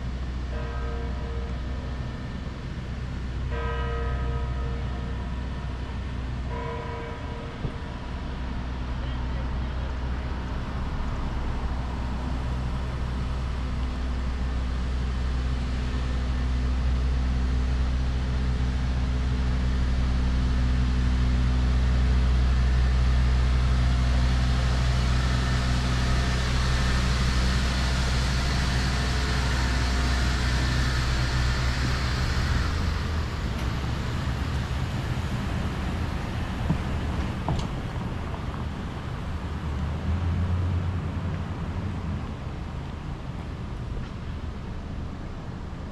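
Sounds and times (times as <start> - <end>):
minibus engine idling: 0.0 - 45.9.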